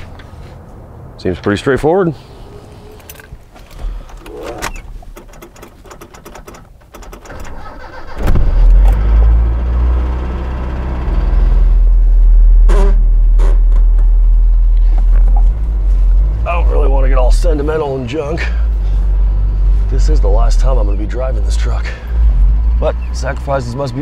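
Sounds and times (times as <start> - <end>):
pickup engine starting and running: 2.2 - 24.0.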